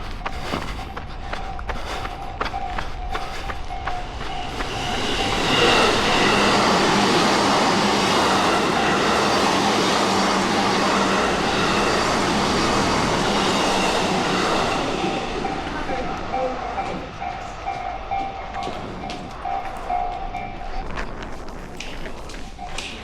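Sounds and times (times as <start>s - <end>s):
running footsteps: 0.0s - 23.0s
train passing: 0.0s - 23.0s.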